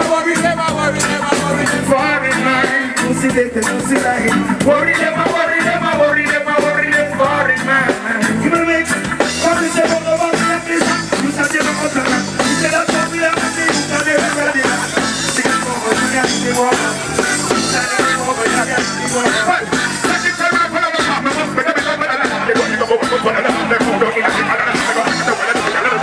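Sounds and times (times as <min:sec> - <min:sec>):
live reggae band playing: 0:00.0 - 0:26.0.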